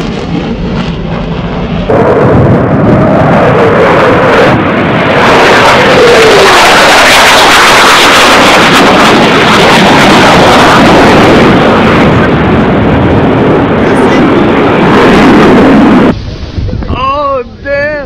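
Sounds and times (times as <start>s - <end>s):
fighter jet passing: 0.0s - 17.7s.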